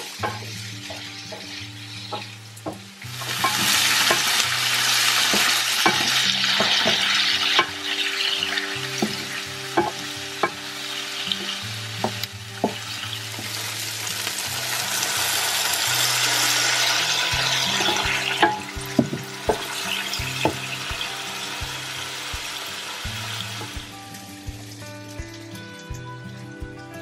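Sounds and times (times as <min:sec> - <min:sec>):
food sizzling in oil: 0:00.0 - 0:26.6.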